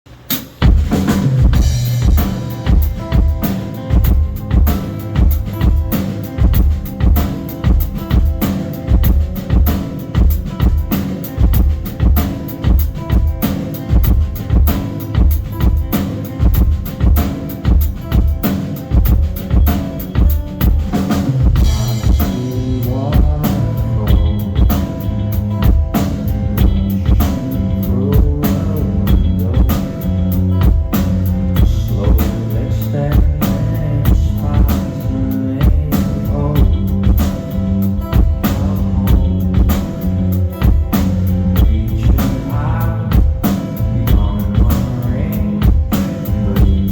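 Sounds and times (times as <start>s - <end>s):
drum kit beat: 0.1s - 46.9s
rock band playing: 0.1s - 46.9s.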